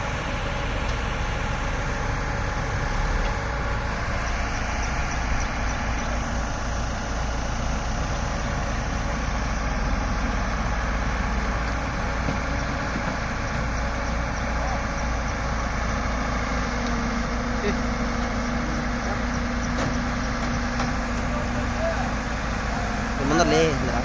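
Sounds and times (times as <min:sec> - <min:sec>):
diesel engines running: 0:00.0 - 0:24.0.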